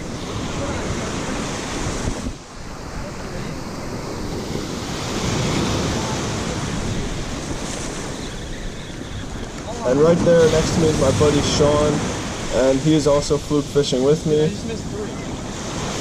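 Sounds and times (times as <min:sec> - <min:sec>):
ocean surf on sandy beach: 0:00.0 - 0:16.0
wind buffeting microphone: 0:00.0 - 0:16.0.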